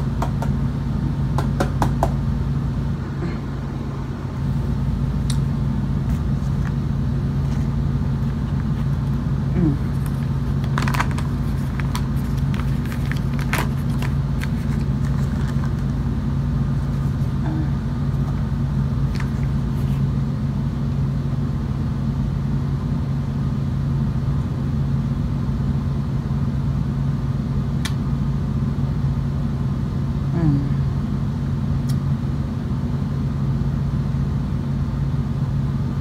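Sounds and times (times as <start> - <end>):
low two-tone hum: 0.0 - 36.0.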